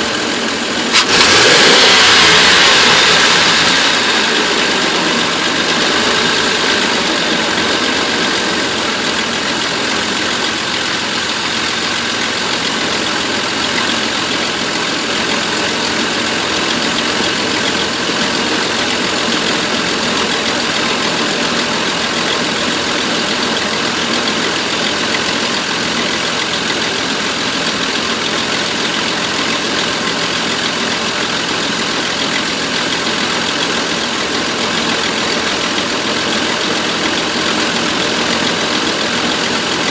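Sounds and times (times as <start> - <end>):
van engine idling with misfire: 0.0 - 39.9.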